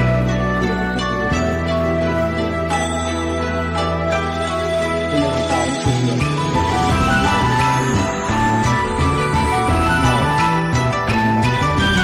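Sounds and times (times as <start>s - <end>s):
melodic background music: 0.0s - 12.0s.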